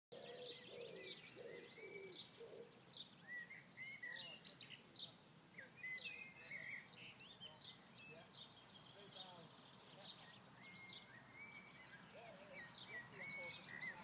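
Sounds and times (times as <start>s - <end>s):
birds chirping and whistling: 0.1s - 14.0s
low bird calls: 0.1s - 14.0s.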